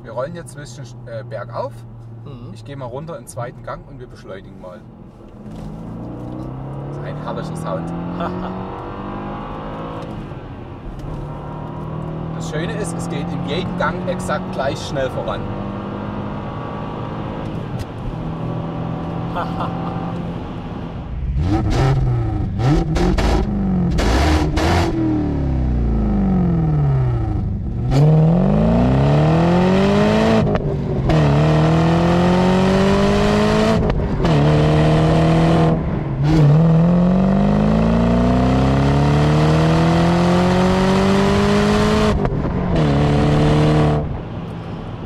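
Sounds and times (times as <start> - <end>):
car engine accelerating hard: 5.3 - 10.3, 11.0 - 45.0.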